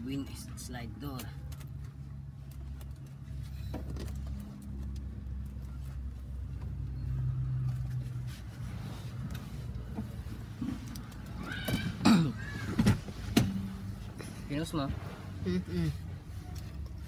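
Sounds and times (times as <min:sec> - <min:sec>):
vehicle engine running: 0:00.0 - 0:11.4, 0:12.1 - 0:17.0.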